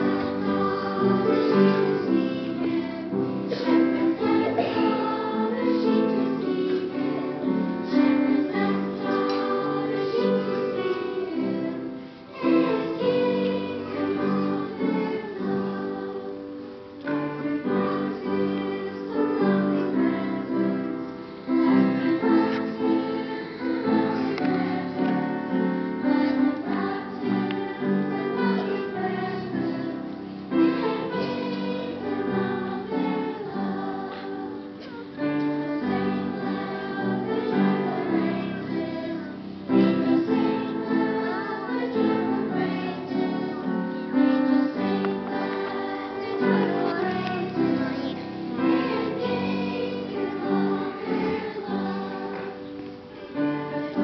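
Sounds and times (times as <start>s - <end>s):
children singing as a choir: 0.0s - 54.0s
instrumental accompaniment: 0.0s - 54.0s.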